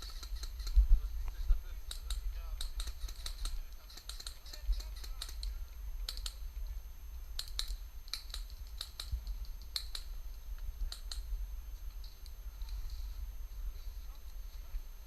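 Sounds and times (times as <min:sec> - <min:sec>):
sharp clicks and crackles: 0:00.0 - 0:06.8, 0:07.4 - 0:13.0
steady low rumble: 0:00.0 - 0:15.0.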